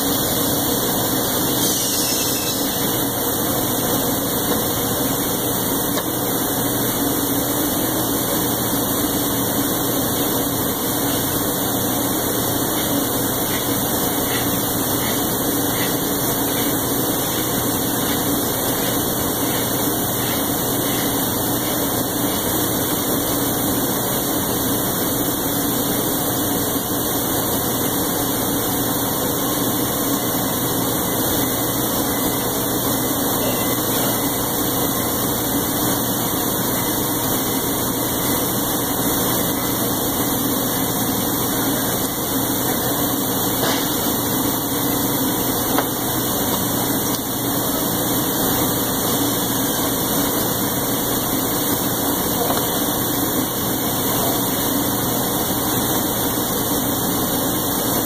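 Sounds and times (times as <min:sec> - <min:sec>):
mechanical drone with hum: 0:00.0 - 0:58.0.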